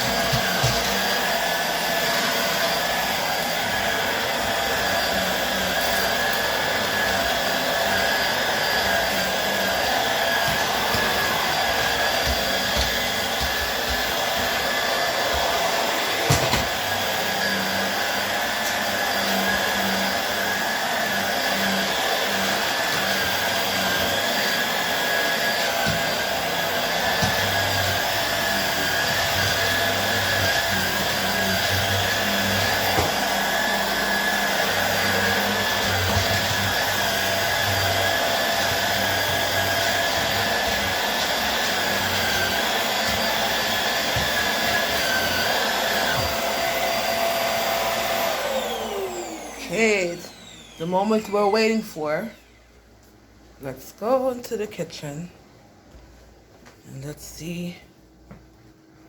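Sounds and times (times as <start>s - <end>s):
vacuum cleaner running: 0.0s - 55.3s.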